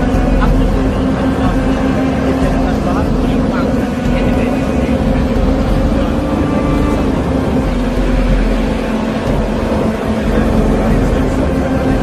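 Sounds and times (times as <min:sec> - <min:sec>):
truck engine low hum: 0:00.0 - 0:12.0.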